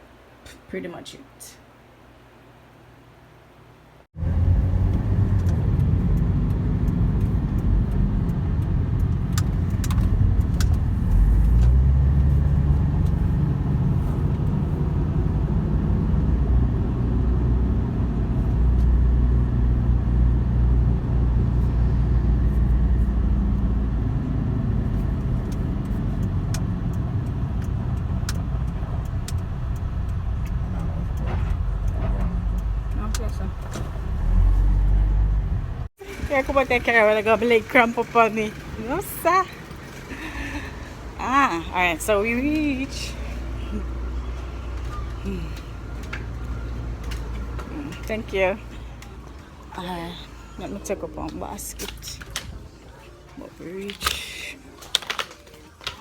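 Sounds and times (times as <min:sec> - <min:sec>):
car engine and tyres rumbling: 0:04.1 - 0:56.0.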